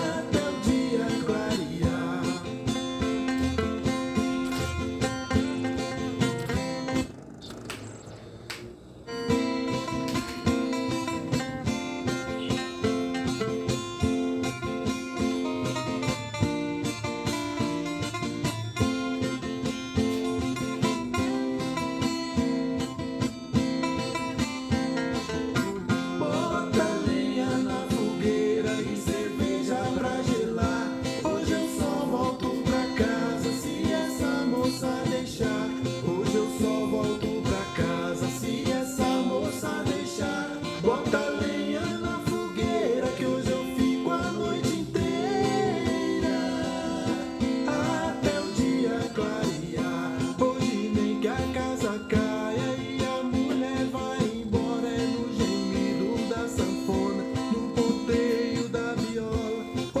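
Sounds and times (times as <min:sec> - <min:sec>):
acoustic guitar music with beat: 0:00.0 - 0:08.0, 0:09.1 - 1:00.0.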